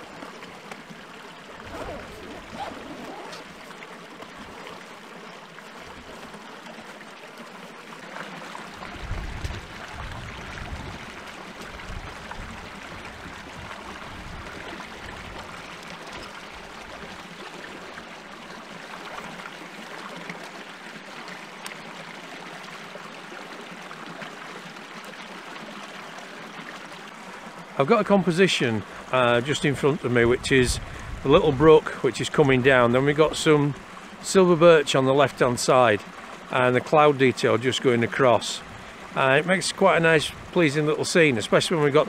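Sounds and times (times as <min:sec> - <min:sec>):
brook burbling over rocks: 0:00.0 - 0:42.0.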